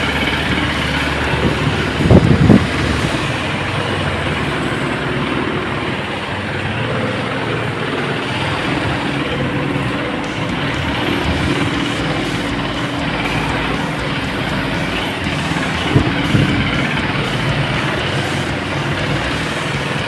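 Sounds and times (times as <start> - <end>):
electric fans whooshing hum: 0.0 - 20.0.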